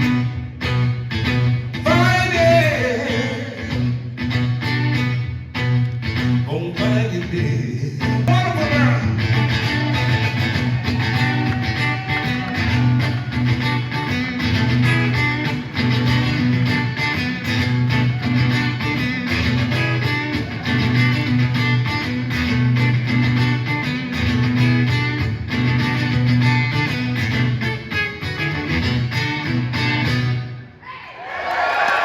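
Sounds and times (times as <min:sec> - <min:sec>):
blues guitar: 0:00.0 - 0:30.8.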